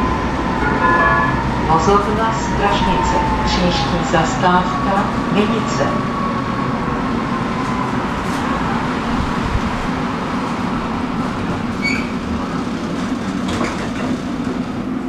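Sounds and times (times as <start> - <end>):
tram wheels rumbling on rails: 0.0 - 15.0.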